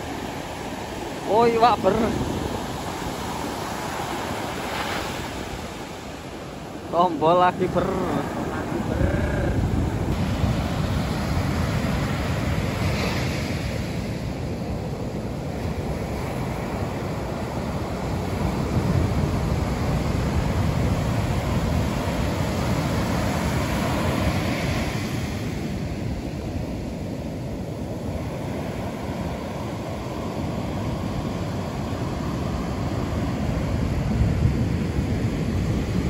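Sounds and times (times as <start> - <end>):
ocean surf breaking: 0.0 - 36.0
wind buffeting microphone: 0.0 - 36.0.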